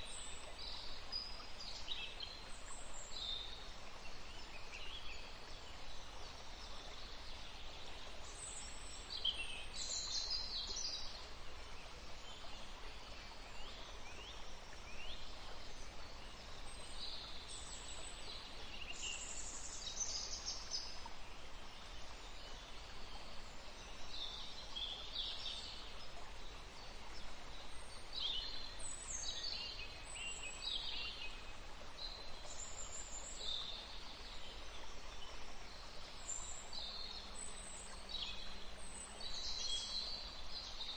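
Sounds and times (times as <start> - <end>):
faint background hiss: 0.0 - 40.9.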